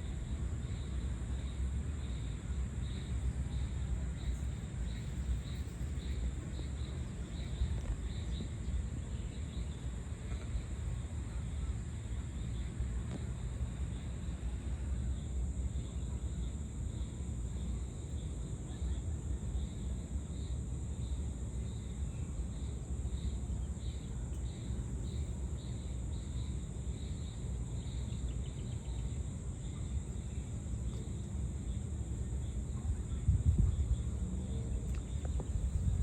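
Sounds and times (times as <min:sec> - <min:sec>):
insect chirping: 0:00.0 - 0:36.0
insects high-pitched drone: 0:00.0 - 0:36.0.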